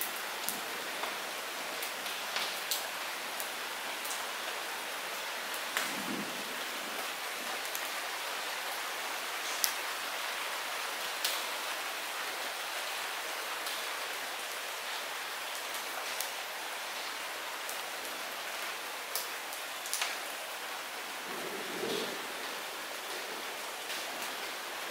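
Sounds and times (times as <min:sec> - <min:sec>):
light rain hiss: 0:00.0 - 0:24.9.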